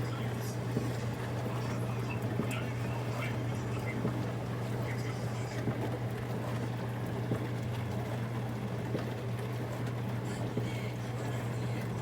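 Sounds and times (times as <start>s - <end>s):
dishwasher motor hum: 0.0s - 12.0s.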